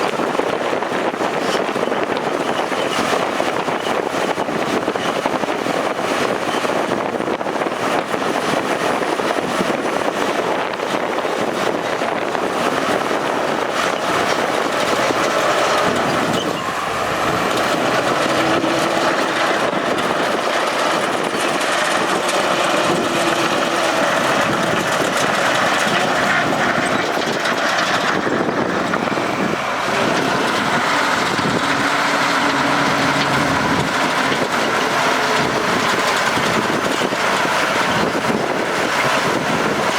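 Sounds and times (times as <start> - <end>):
diesel engine running hard: 0.0 - 39.9.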